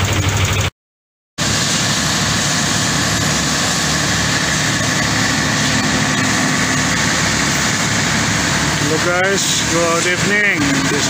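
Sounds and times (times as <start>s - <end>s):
diesel engine running: 0.0s - 0.7s, 1.4s - 11.0s.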